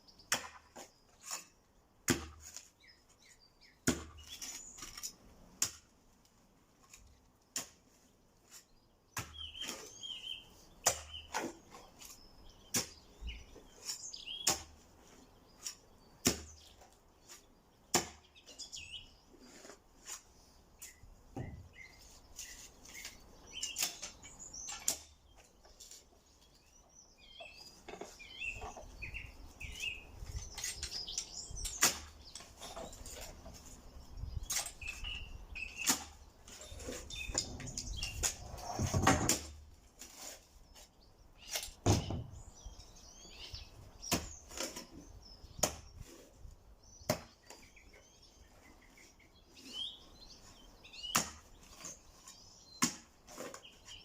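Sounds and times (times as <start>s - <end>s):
small birds chirping and singing: 0.0s - 54.0s.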